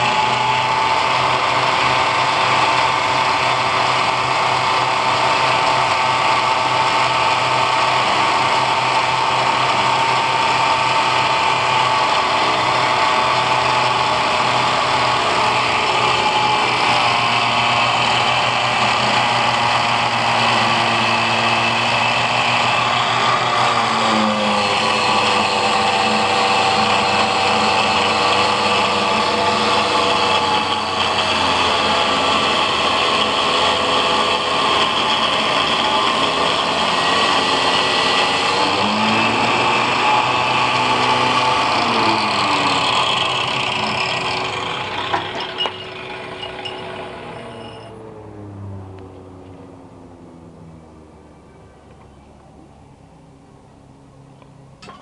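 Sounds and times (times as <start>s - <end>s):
angle grinder whining: 0.0s - 50.4s.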